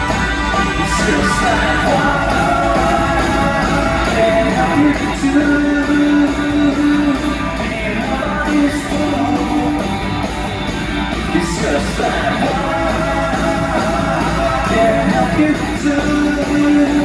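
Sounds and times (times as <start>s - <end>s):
person singing: 0.0s - 10.3s, 11.1s - 17.0s
live pop band playing: 0.0s - 17.0s.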